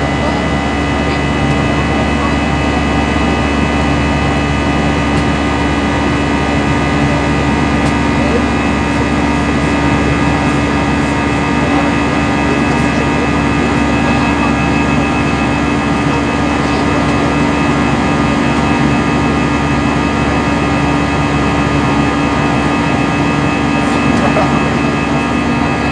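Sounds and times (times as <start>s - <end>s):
constant droning hum: 0.0s - 25.9s
jet engine and airflow noise: 0.0s - 25.9s.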